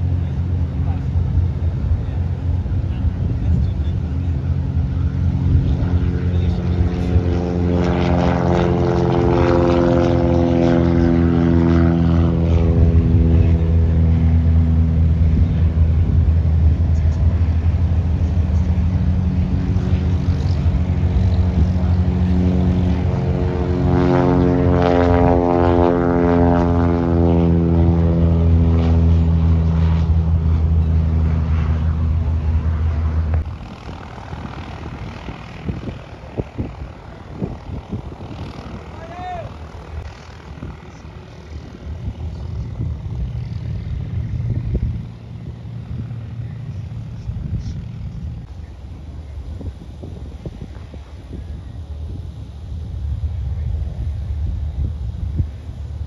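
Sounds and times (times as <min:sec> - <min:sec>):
propeller airplane droning: 0:00.0 - 0:56.0.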